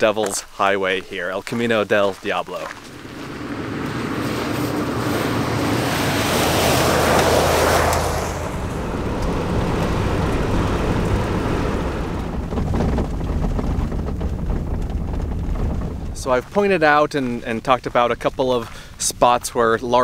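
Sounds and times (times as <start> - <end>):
tyres rumbling on dirt road: 0.0 - 20.0
vehicle driving by on gravel: 1.4 - 20.0.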